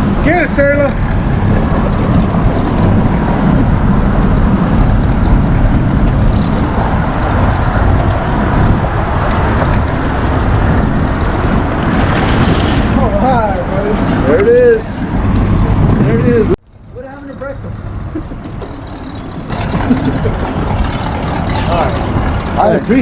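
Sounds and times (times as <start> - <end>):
low rumble on boat deck: 0.0 - 23.0.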